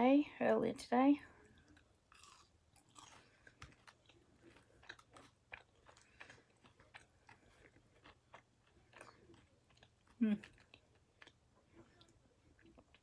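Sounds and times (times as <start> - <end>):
chewing crunchy food: 1.4 - 13.0.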